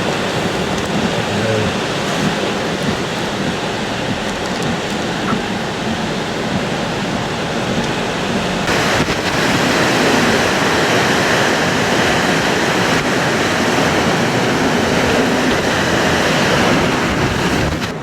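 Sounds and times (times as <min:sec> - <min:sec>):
wind roaring across microphone: 0:00.0 - 0:18.0.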